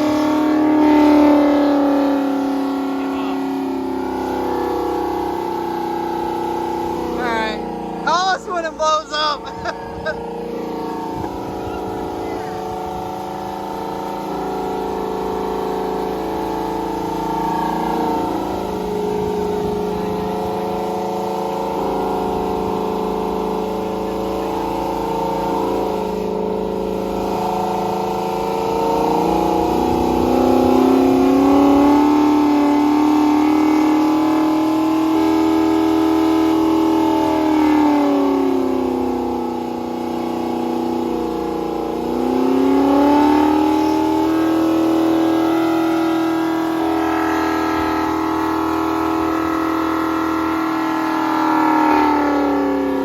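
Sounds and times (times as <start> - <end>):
car engine at high revs: 0.0 - 53.0.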